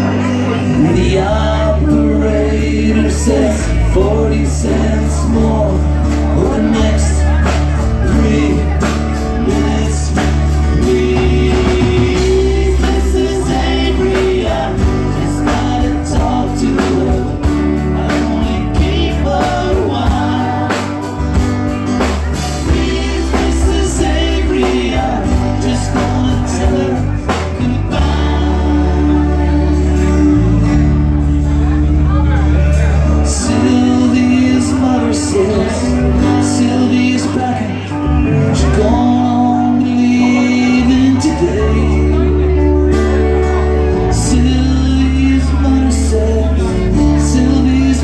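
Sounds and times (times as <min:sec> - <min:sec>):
live band playing: 0:00.0 - 0:48.0
person singing: 0:00.0 - 0:48.0.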